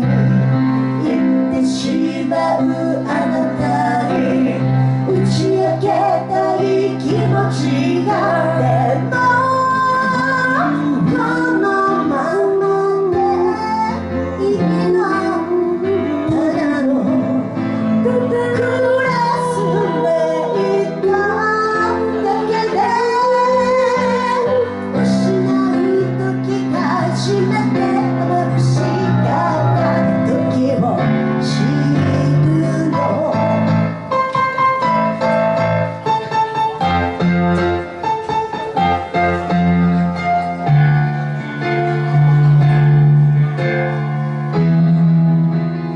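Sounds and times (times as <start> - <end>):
person singing pop song: 0.0 - 37.0
piano accompaniment: 0.0 - 45.9.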